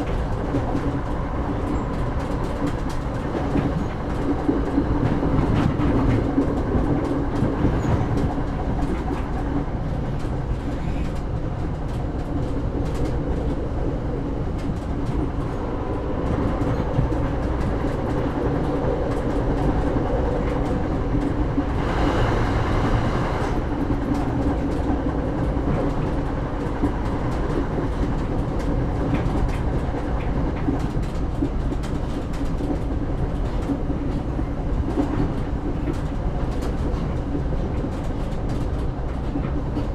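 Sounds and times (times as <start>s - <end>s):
clicks and knocks from train wheels: 0.0s - 22.2s, 22.8s - 39.9s
train carriage rumble and hum: 0.0s - 39.9s.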